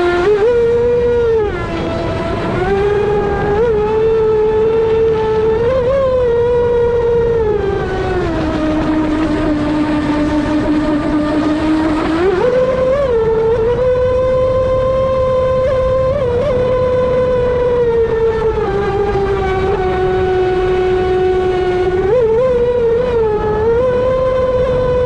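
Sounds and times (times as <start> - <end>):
rc boat motor whining: 0.0 - 25.0.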